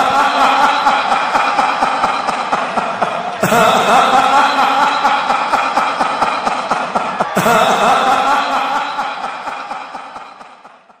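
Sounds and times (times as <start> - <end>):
man laughing mockingly: 0.0 - 11.0.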